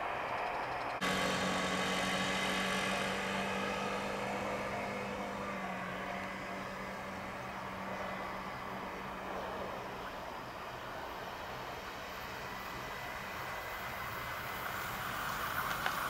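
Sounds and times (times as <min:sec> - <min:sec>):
electric train hum and whine: 0:00.0 - 0:16.0
passing train running noise: 0:00.0 - 0:16.0.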